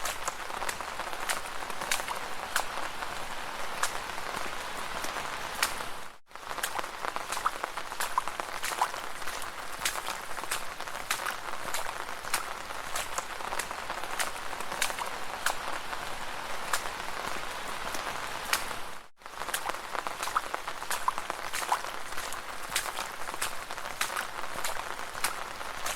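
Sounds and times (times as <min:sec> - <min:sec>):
footsteps splashing through puddles: 0:00.0 - 0:25.9.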